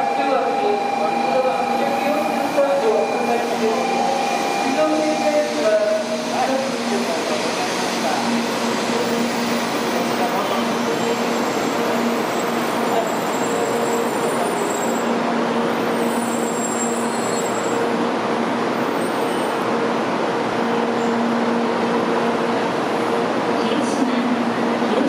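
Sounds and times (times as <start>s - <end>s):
murmur of passengers: 0.0s - 25.0s
train rumbling into platform: 0.0s - 25.0s.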